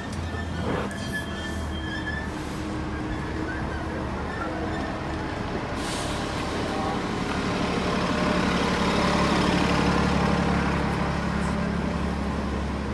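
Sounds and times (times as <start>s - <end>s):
heavy vehicle engine hum: 0.0s - 12.9s
street traffic road noise: 0.0s - 12.9s.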